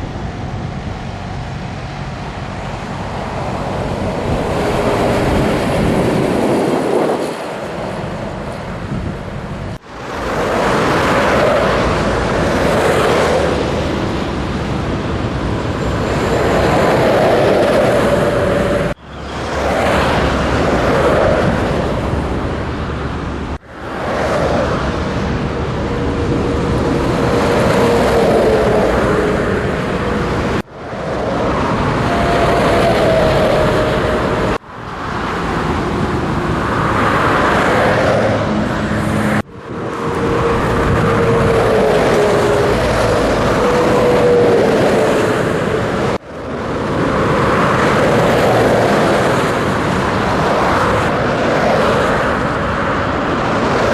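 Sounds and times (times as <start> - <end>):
truck engine and road noise: 0.0 - 53.9.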